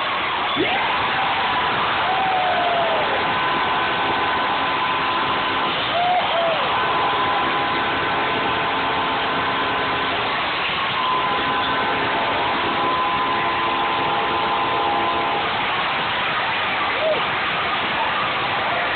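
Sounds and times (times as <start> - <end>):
crowd cheering: 0.0 - 18.9
sustained pitched tones: 0.5 - 18.6.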